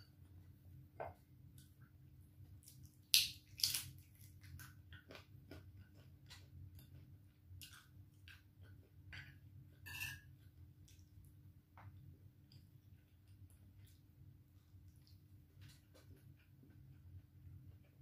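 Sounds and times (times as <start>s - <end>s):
chewing crisp fried fish: 2.5s - 18.0s.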